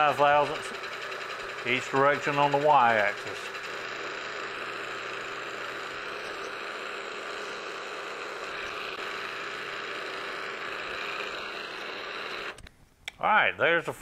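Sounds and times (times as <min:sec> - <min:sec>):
milling machine running: 0:00.0 - 0:12.6.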